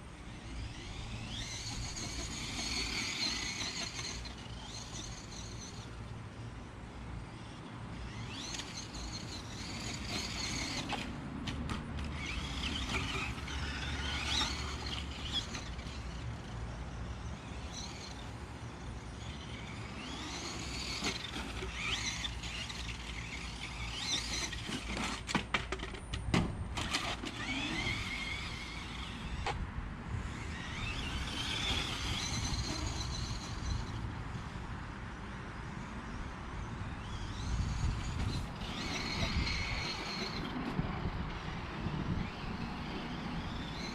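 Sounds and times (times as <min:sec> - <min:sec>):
electric motor whining: 0:00.1 - 0:06.6, 0:07.2 - 0:11.2, 0:12.0 - 0:25.3, 0:26.8 - 0:29.6, 0:30.2 - 0:34.1, 0:37.0 - 0:43.9.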